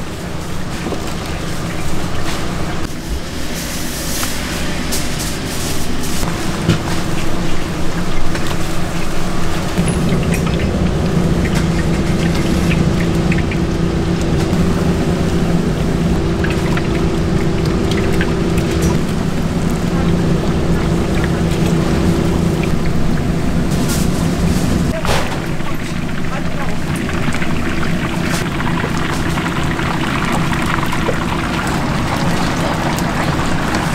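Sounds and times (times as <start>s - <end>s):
oil sizzling in a deep fryer: 0.0s - 33.9s
steady low hum: 0.0s - 33.9s.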